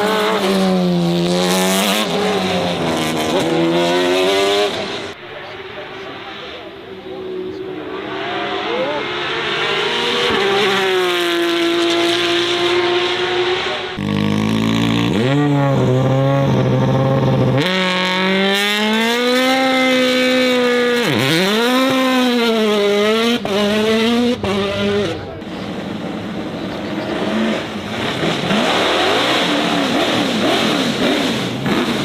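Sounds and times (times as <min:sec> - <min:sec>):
racing car engines accelerating: 0:00.0 - 0:32.0.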